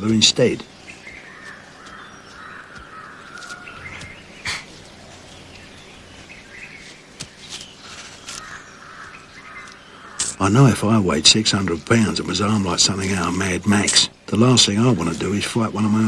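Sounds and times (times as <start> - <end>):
bird calls: 0.0 - 16.0.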